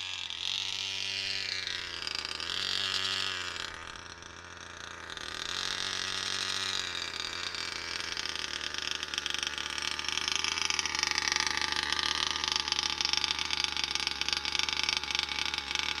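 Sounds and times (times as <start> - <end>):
small two-stroke engine running: 0.0 - 16.0.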